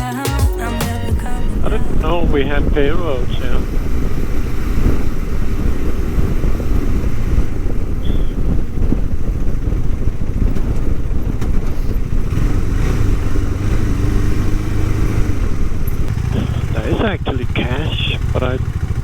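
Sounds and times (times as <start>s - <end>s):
motorcycle engine: 1.5s - 19.0s
wind rumble on microphone: 1.6s - 19.0s.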